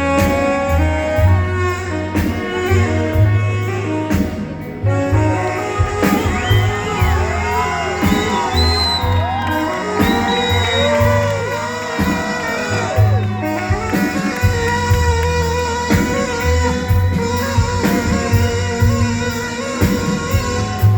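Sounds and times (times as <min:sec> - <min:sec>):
rock band playing: 0:00.0 - 0:20.9
steady bass: 0:00.0 - 0:20.9.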